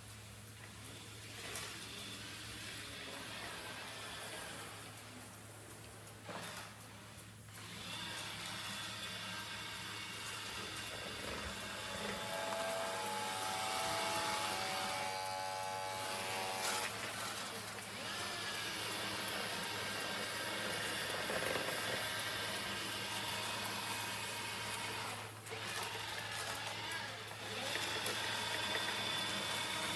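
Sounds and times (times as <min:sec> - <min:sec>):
robot vacuum humming: 0:01.3 - 0:05.4, 0:07.6 - 0:29.9.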